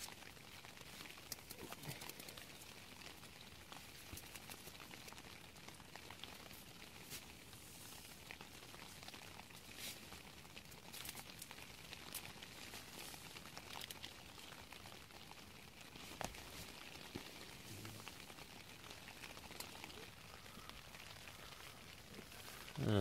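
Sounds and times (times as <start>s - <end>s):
rain pattering on tent fabric: 0.0s - 23.0s.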